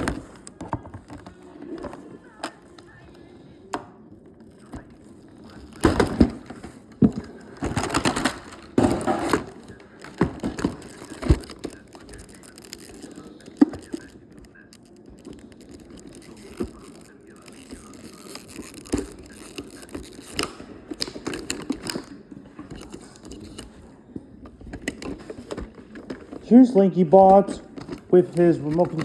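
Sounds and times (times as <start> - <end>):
toy packaging crackling: 0.0 - 29.0.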